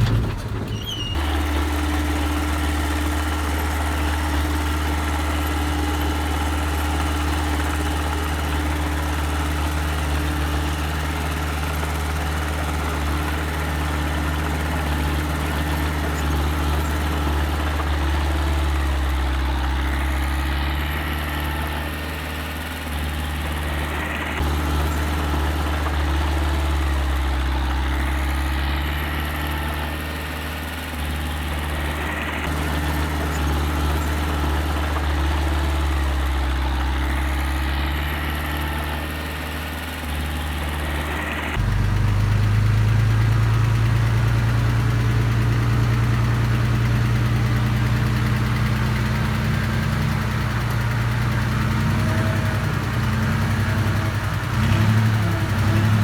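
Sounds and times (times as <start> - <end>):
machinery engine humming: 0.0 - 56.0.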